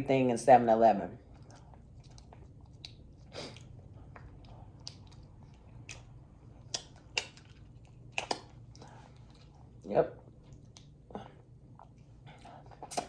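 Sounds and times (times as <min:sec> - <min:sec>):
chewing and mouth smacks: 0:01.2 - 0:13.0.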